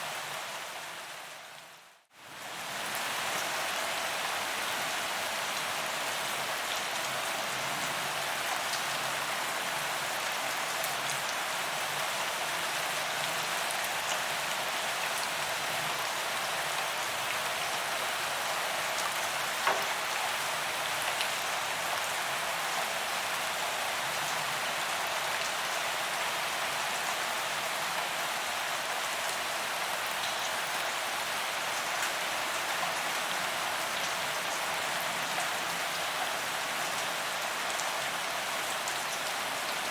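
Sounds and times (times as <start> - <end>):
rain on pavement: 0.1 - 39.9.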